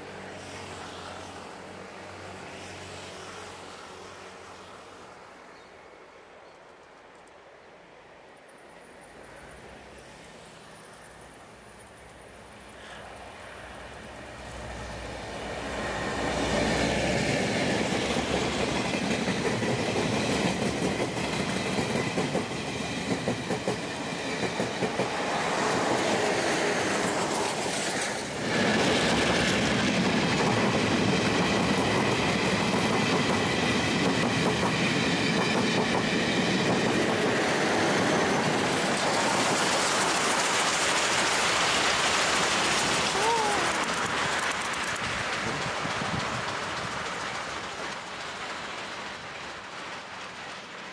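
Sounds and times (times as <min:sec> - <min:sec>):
train wheels running on rails: 0:06.5 - 0:50.9.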